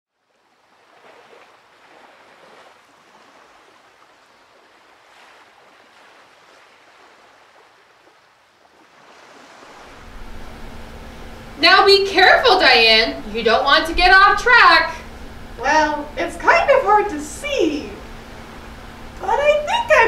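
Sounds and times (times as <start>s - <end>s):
ocean waves breaking: 0.1s - 20.0s.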